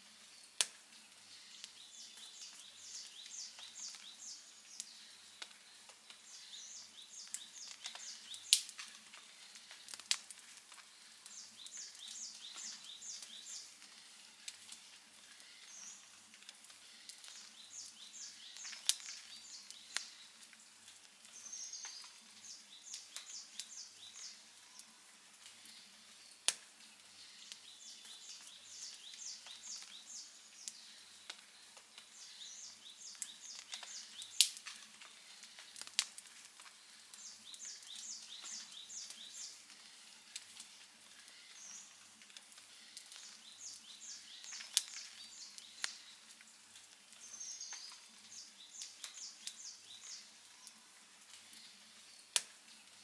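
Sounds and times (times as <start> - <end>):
campfire crackling and popping: 0.1 - 53.0.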